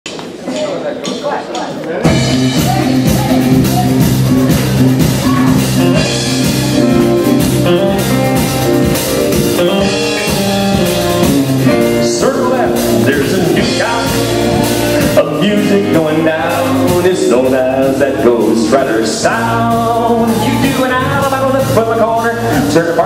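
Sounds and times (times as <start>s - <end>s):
country band playing: 2.0s - 23.0s
drum kit beat: 2.0s - 23.0s
guitar: 2.0s - 23.0s.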